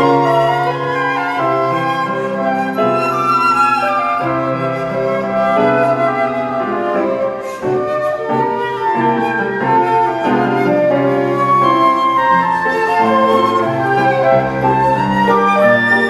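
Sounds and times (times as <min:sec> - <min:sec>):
flutes playing slow melody: 0:00.0 - 0:16.0.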